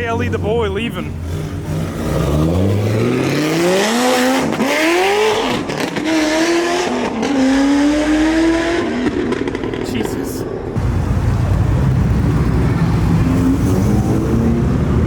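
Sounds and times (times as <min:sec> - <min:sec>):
car engine accelerating: 0:00.1 - 0:09.8, 0:10.8 - 0:15.0.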